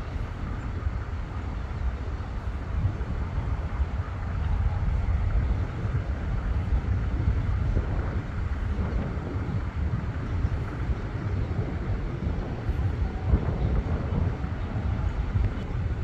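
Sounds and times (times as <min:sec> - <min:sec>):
distant locomotive rumble: 0:00.0 - 0:16.0
wind buffeting microphone: 0:00.0 - 0:16.0.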